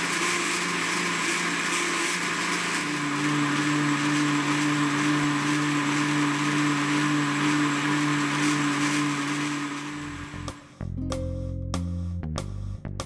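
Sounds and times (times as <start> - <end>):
blender motor running: 0.0 - 10.7.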